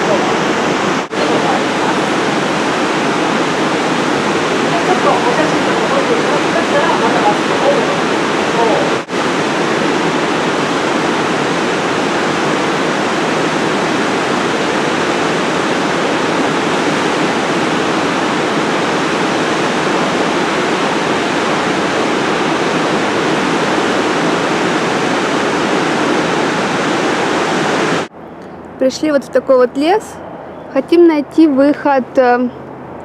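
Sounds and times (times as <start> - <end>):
whitewater rapids rushing: 0.0 - 28.1.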